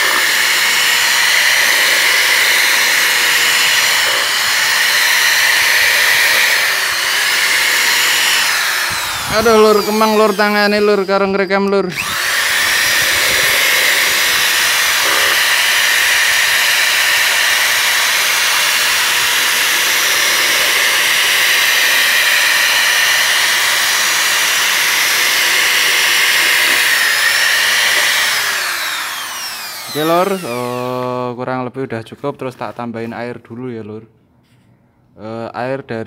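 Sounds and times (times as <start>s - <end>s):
electric drill stirring paint: 0.0s - 31.2s.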